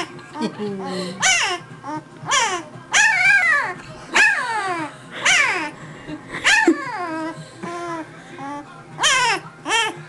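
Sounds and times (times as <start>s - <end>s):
puppy whining: 1.2s - 5.8s, 6.4s - 10.0s.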